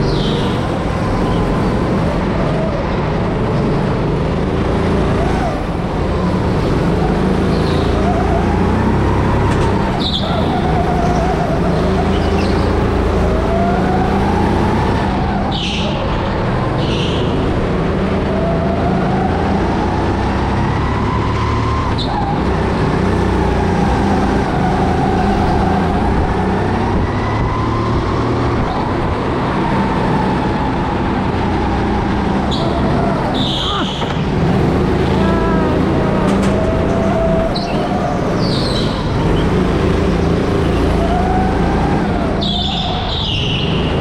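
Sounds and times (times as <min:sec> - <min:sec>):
go-kart motor whining: 0:00.0 - 0:44.0.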